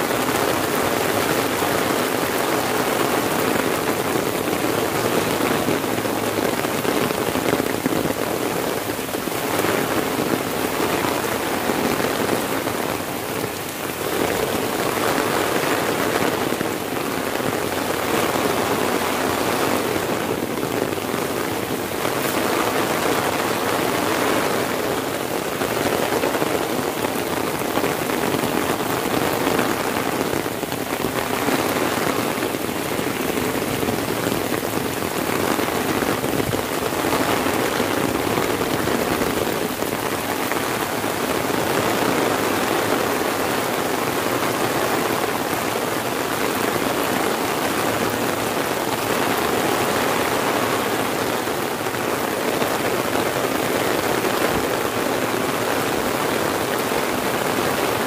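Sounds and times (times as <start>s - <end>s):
rain drumming on umbrella: 0.0s - 58.0s
rain hissing on vegetation: 0.0s - 58.0s.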